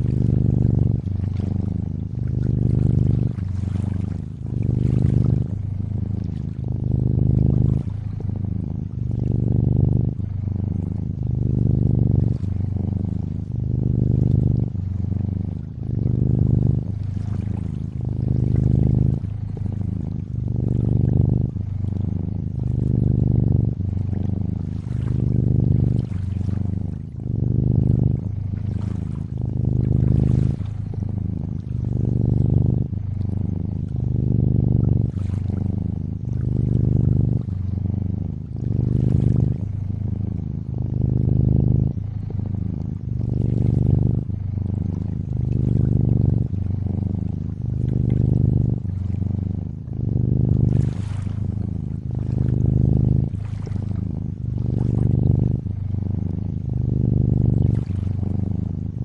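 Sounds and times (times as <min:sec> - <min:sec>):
cat purring: 0:00.0 - 0:59.0
lapping lake water: 0:00.0 - 0:59.0.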